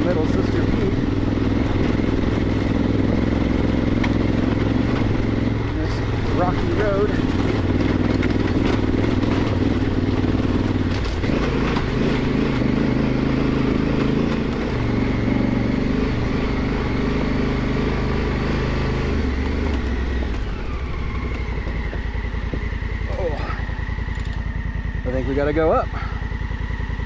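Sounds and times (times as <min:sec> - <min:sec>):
motorcycle engine climbing: 0:00.0 - 0:27.0.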